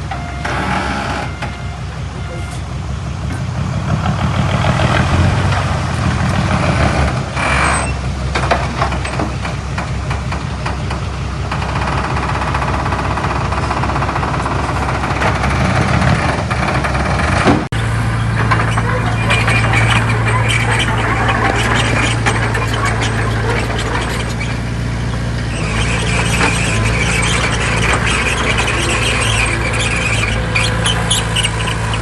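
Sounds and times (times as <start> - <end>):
heavy diesel machinery engine: 0.0 - 32.0.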